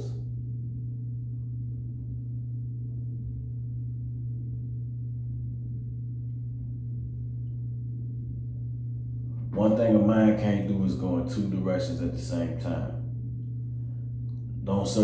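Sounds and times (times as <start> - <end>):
gong-like ambient drone: 0.0 - 15.0.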